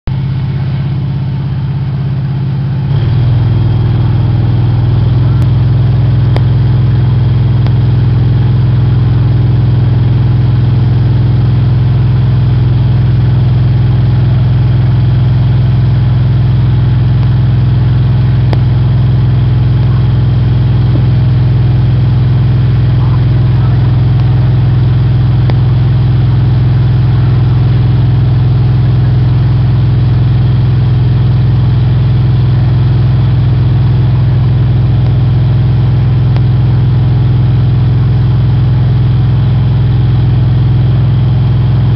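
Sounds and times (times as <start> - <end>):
boat engine driving pump: 0.1 - 14.9, 18.3 - 41.9.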